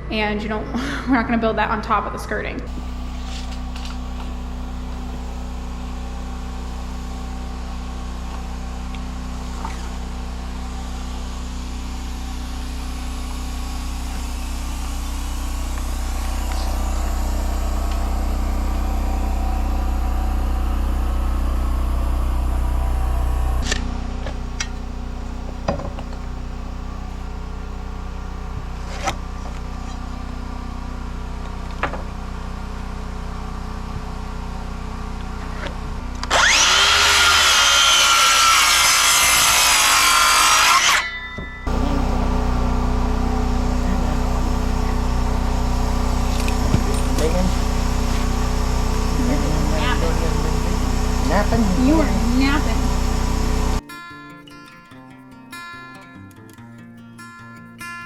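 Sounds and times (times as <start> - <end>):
engine humming: 0.0 - 38.4, 41.0 - 53.8.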